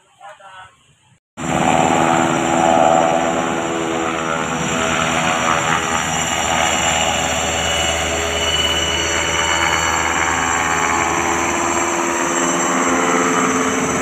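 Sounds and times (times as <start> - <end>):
helicopter engine and rotor noise: 1.4 - 14.0
helicopter turbine whine: 1.4 - 14.0.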